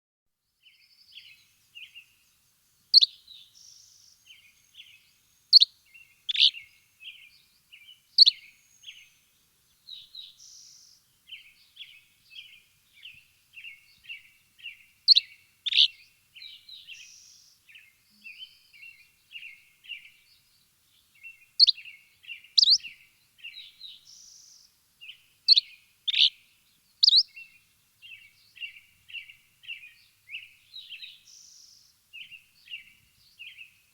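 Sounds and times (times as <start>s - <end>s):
birds chirping: 3.0s - 9.1s, 9.9s - 26.4s, 27.0s - 33.7s.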